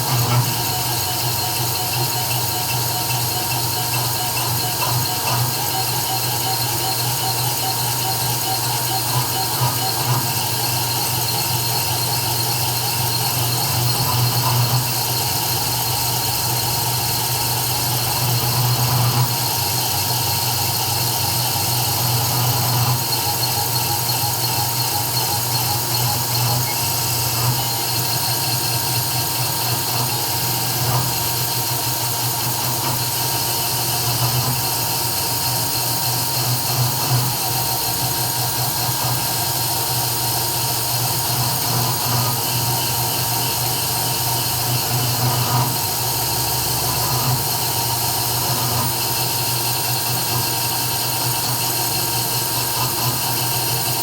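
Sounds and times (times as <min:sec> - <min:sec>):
router spindle whine: 0:00.0 - 0:54.0.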